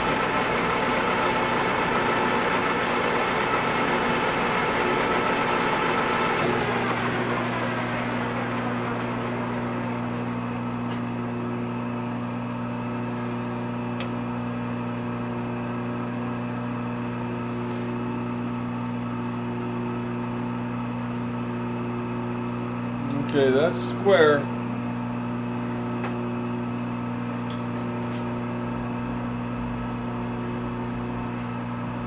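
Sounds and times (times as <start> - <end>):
lathe humming: 0.0 - 32.0.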